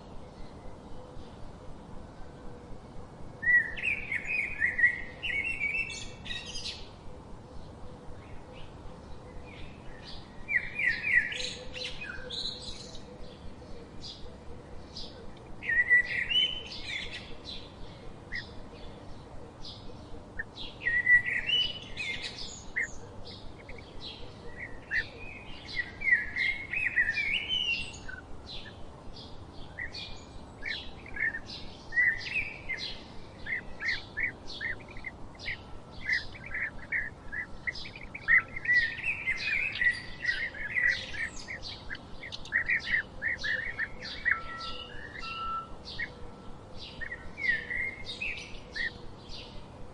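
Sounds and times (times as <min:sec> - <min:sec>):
warbled bird song: 0:00.0 - 0:49.9.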